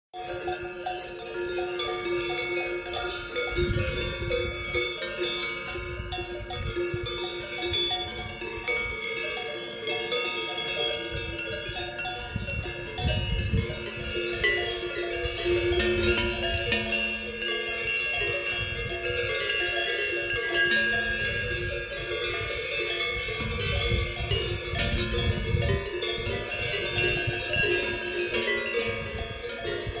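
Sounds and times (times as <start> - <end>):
cowbells clanking: 0.1 - 30.0.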